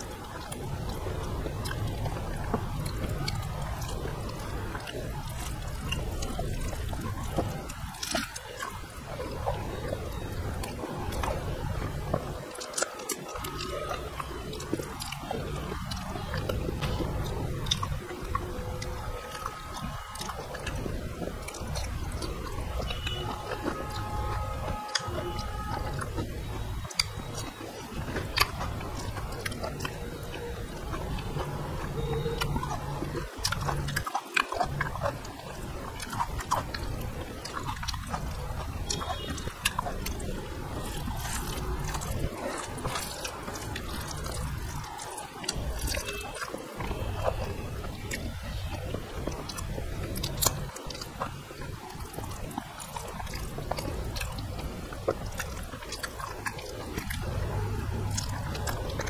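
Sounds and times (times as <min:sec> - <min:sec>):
wet chewing clicks: 0:00.0 - 0:59.0.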